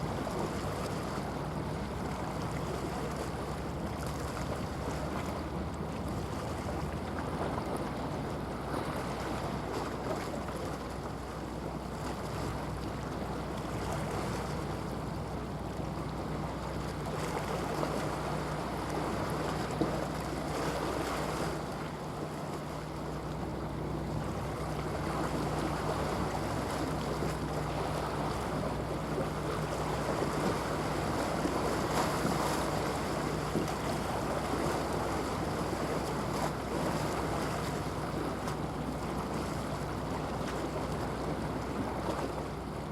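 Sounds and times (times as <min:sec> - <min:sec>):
moving water: 0:00.0 - 0:42.9
ship engine hum: 0:00.0 - 0:42.9.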